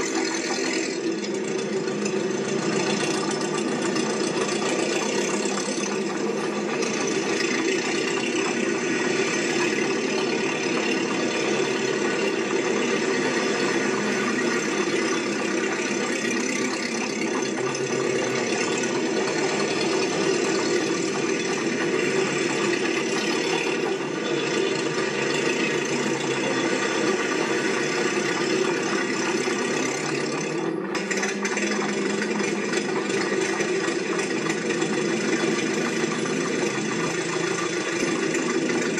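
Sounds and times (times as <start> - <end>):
mechanical rattling engine: 0.0 - 38.9.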